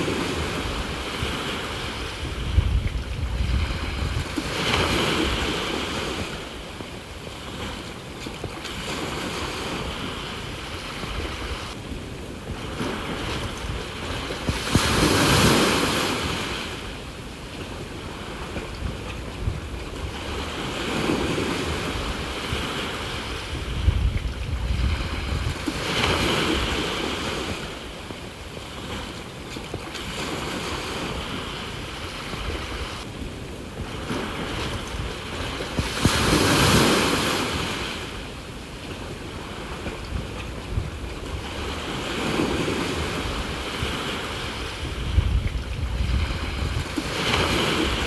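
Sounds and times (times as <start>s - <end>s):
sea waves breaking: 0.0s - 48.0s
wind rumbling on microphone: 0.0s - 48.0s.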